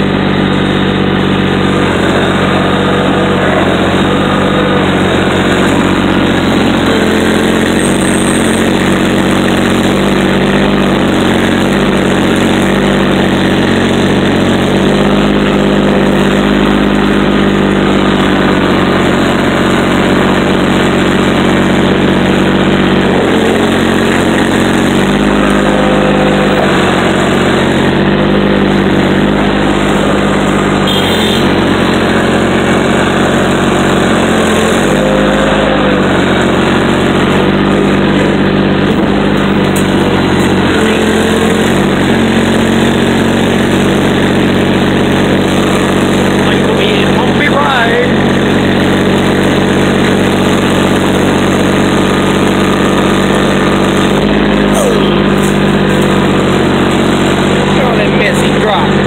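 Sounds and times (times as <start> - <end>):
excavator engine running: 0.0 - 59.0
truck diesel engine idling: 0.0 - 59.0.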